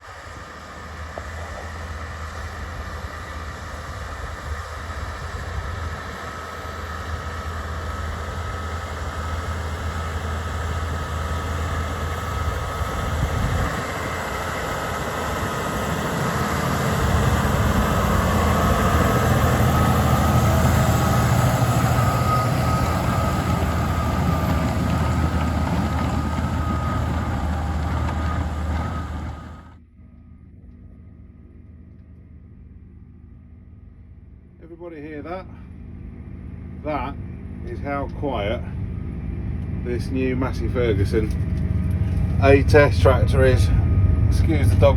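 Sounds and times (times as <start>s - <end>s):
faint steady whine: 0.0s - 44.9s
tractor engine hum: 0.0s - 44.9s.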